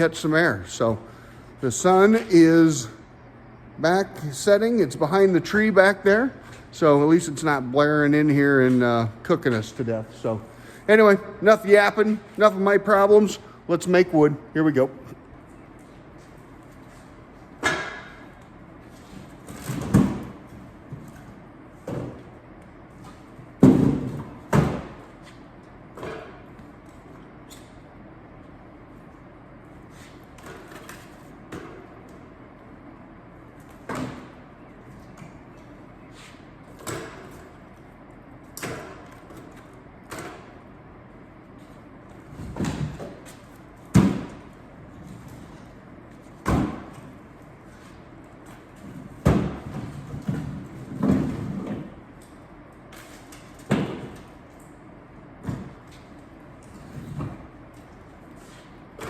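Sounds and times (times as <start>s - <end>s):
steady background hum: 0.0s - 59.0s.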